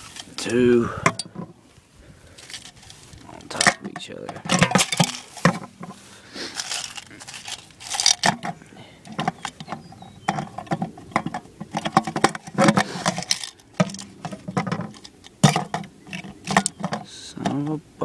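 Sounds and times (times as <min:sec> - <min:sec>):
aluminium cans clicking and knocking: 0:00.0 - 0:01.6, 0:02.4 - 0:06.0, 0:06.6 - 0:17.8.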